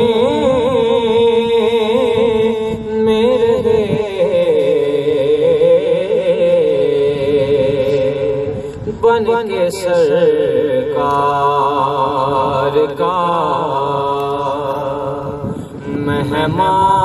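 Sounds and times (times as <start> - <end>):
man singing devotional poem: 0.0 - 17.0.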